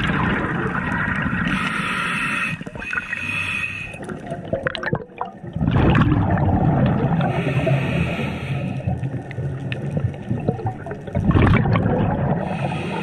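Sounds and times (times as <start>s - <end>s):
underwater gurgling rush: 0.0s - 13.0s.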